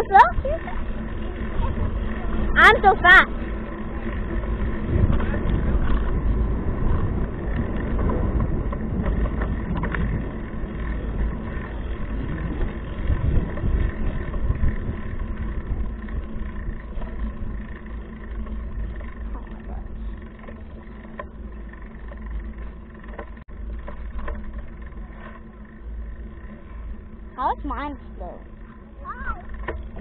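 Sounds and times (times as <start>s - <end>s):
road rumble: 0.0s - 30.0s
wind buffeting microphone: 0.0s - 30.0s.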